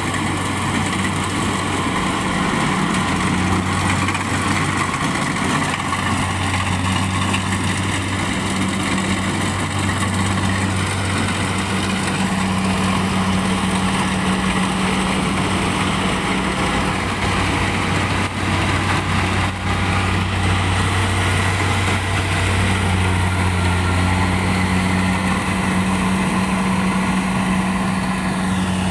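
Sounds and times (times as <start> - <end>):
harvesting machine engine humming: 0.0 - 28.9.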